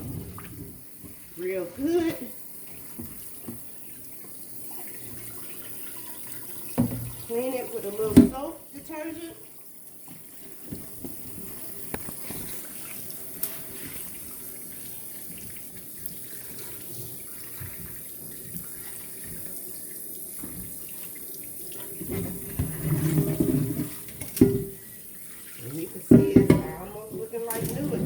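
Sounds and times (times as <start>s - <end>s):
tap water running into sink: 0.0s - 28.0s.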